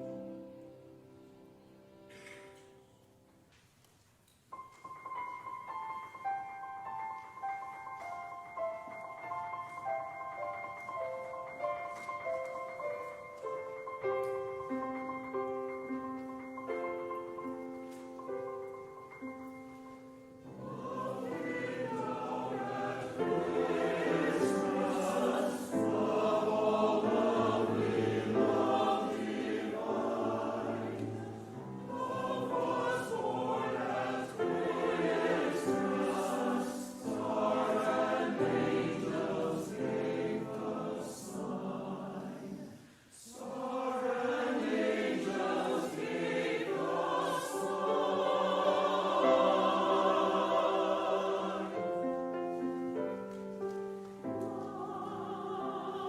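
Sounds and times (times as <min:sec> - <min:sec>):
held accompaniment notes: 0:04.5 - 0:56.0
choir singing in parts: 0:05.1 - 0:56.0.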